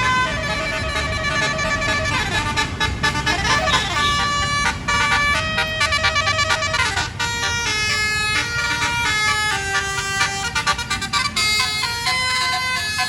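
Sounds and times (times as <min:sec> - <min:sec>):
bus air horn playing a melody: 0:00.0 - 0:13.0.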